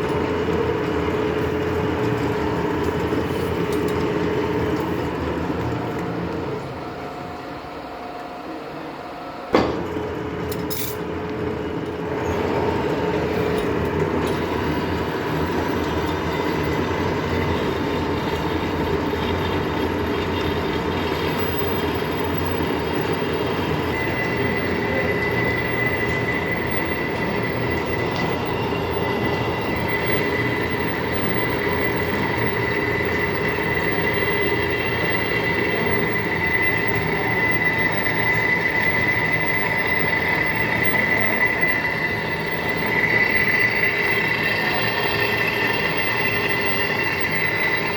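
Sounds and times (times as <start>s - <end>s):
metal lathe whining: 0.0s - 9.0s, 10.2s - 47.9s.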